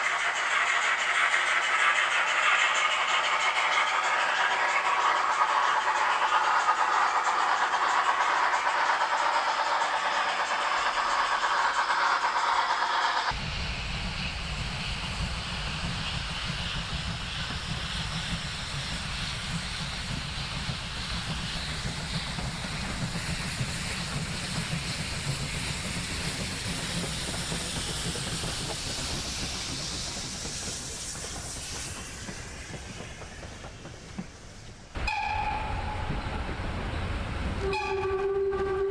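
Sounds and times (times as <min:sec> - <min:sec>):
low rumble of locomotive: 0:00.0 - 0:38.9
steam locomotive hissing: 0:00.0 - 0:38.9.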